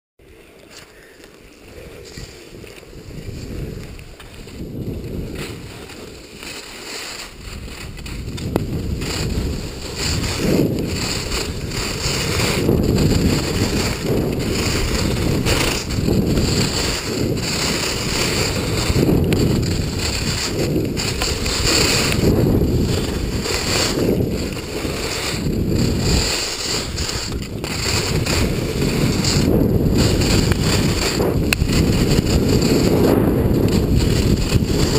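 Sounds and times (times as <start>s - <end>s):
skis hissing over snow: 0.3s - 34.9s
wind rushing over microphone: 1.6s - 34.9s.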